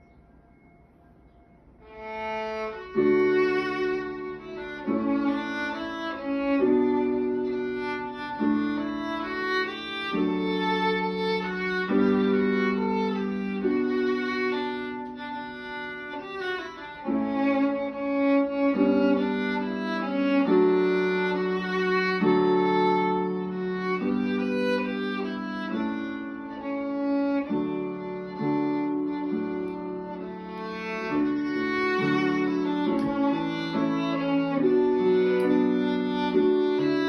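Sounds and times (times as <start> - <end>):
violin playing folk march: 1.9 - 37.0.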